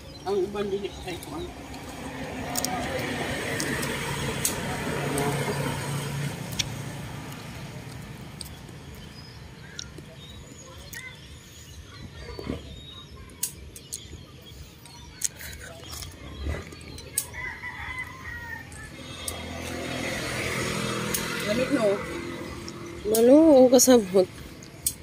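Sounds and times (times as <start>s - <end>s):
low engine-like hum: 0.0s - 25.0s.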